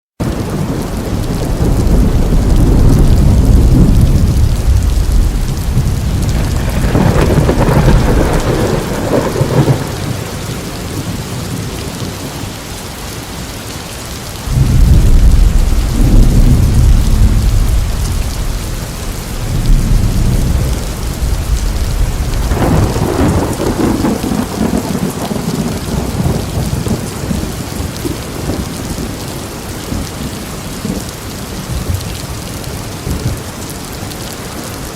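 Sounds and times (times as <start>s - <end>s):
rolling thunder: 0.2s - 12.3s, 14.4s - 33.5s
heavy steady rain: 0.2s - 34.9s.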